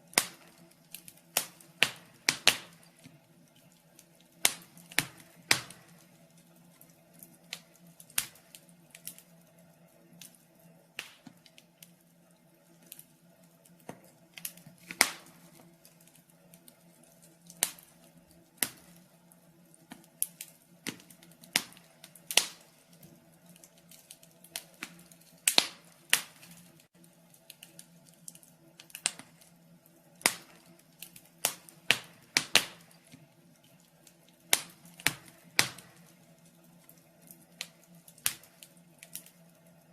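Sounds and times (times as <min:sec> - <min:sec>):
burning logs popping: 0:00.0 - 0:39.9
faint steady hum: 0:00.0 - 0:39.9
wood fire crackling: 0:00.0 - 0:39.9.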